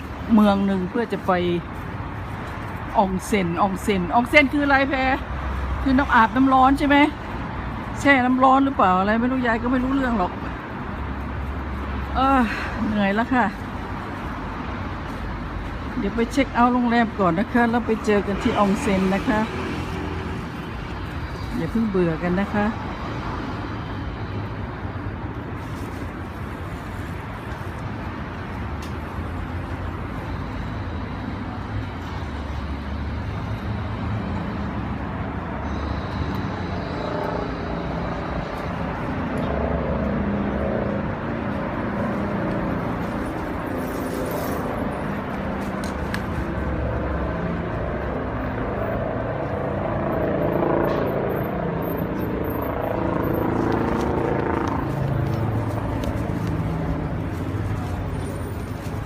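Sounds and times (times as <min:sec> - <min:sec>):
low rumble of vehicle noise: 0:00.0 - 0:59.0.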